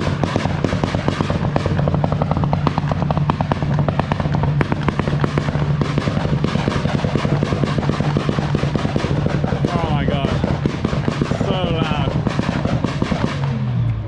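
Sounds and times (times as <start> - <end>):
car engine at high revs: 0.0 - 14.0
exhaust pops crackling: 0.0 - 14.0.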